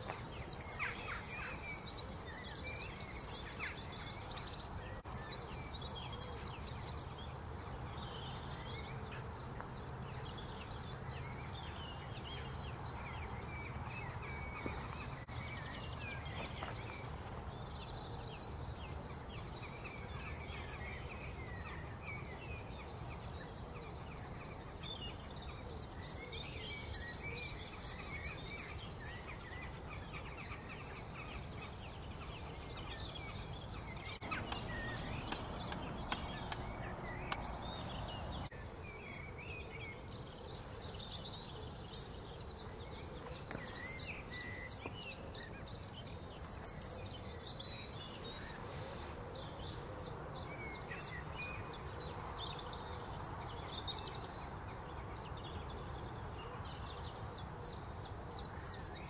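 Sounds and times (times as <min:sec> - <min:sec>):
wild birds chirping and trilling: 0:00.0 - 0:59.0.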